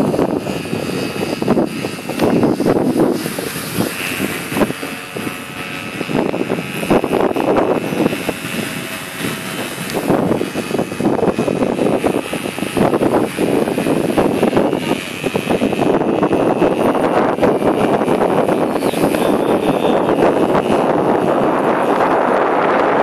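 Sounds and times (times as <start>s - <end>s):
paramotor engine droning: 0.0s - 23.0s
wind noise on microphone: 0.0s - 23.0s.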